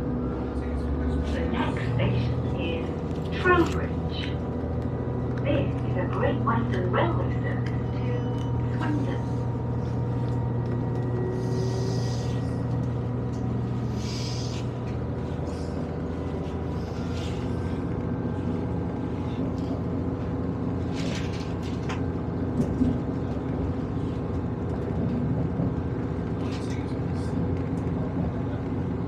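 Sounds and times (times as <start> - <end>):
diesel train cabin rumble: 0.0 - 29.0.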